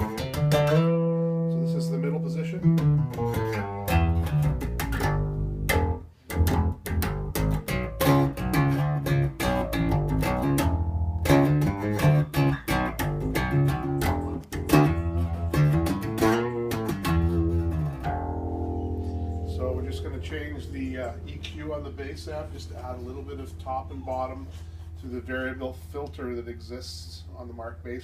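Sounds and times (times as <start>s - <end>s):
electric bass plucked notes: 0.0s - 28.0s.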